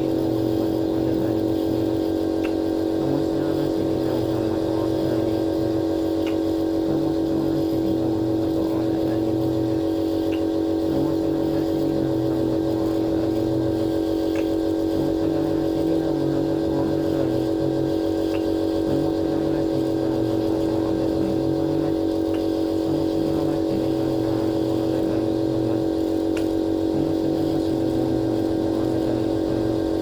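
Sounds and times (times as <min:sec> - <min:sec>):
air compressor humming: 0:00.0 - 0:30.0.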